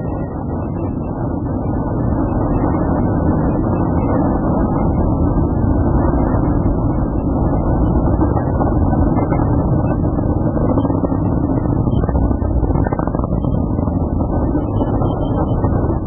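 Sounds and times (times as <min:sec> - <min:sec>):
rocket engine rumble: 0:00.0 - 0:16.0.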